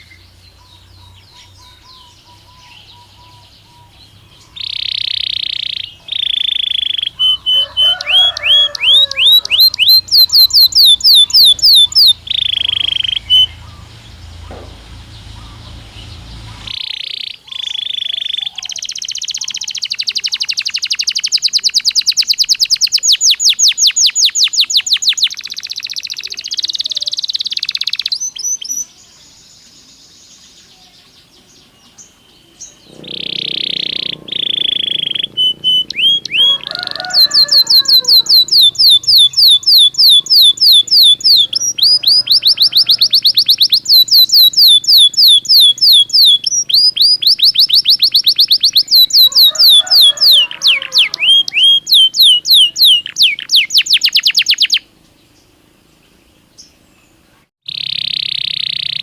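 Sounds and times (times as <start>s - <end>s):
canary singing: 0.0s - 29.8s, 30.4s - 54.9s, 56.6s - 59.0s.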